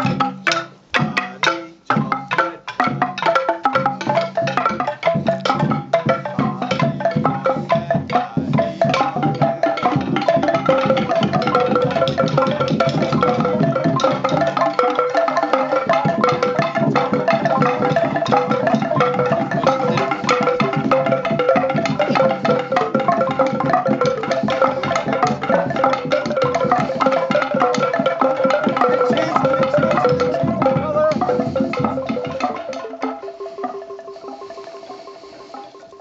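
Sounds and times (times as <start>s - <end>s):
fast percussion music: 0.0s - 36.0s.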